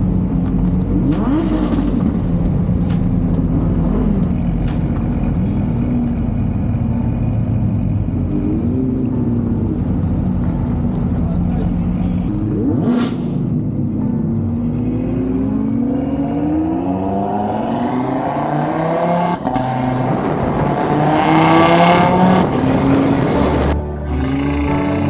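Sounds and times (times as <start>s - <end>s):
supercar engines accelerating: 0.0s - 25.0s.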